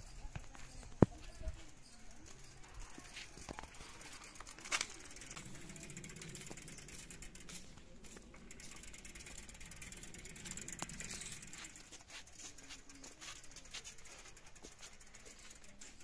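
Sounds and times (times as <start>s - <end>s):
bicycle freewheel ticking: 1.2s - 16.0s.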